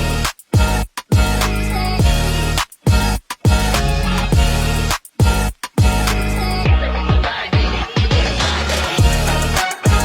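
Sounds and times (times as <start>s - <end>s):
electronic music with bass beat: 0.0s - 10.0s.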